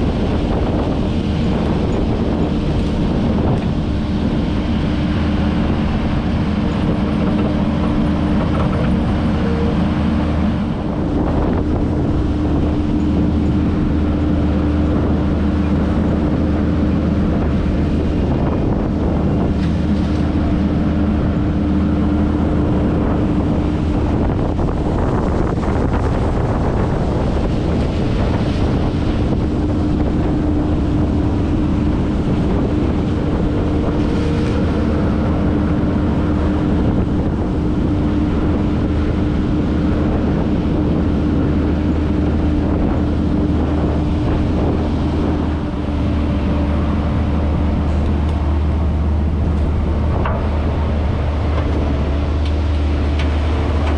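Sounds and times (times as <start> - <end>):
diesel engine running under load: 0.0 - 53.9
steady whine: 0.0 - 53.9.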